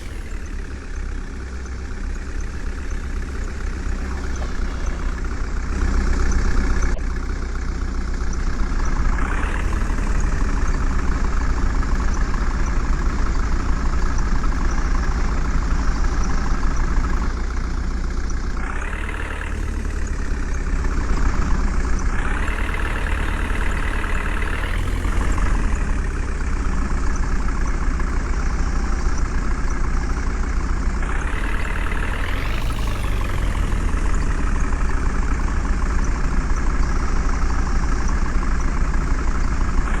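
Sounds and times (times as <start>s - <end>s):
diesel engine revving: 0.0s - 40.0s.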